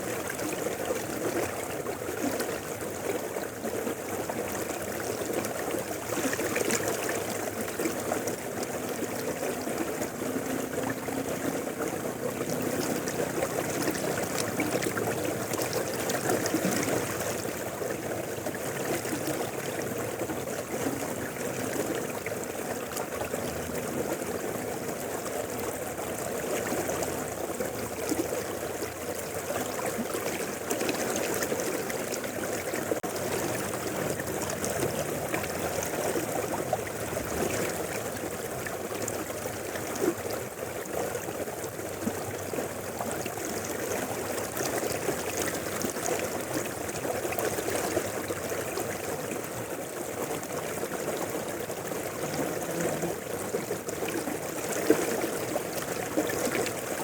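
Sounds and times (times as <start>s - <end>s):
river water rushing: 0.0s - 57.0s
small water splashes: 0.0s - 57.0s.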